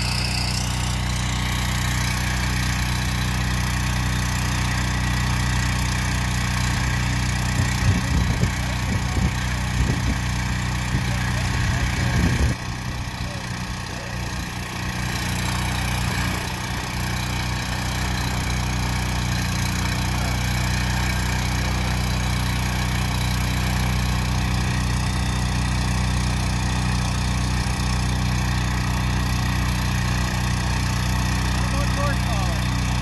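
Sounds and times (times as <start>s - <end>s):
small gasoline engine running: 0.0s - 33.0s.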